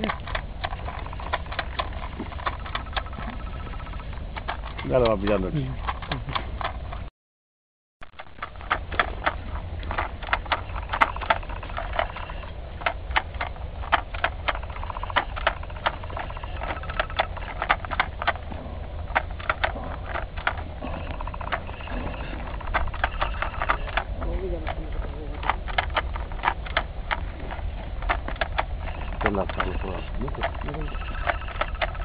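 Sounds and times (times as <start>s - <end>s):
steady low rumble: 0.0s - 7.1s, 8.0s - 32.0s.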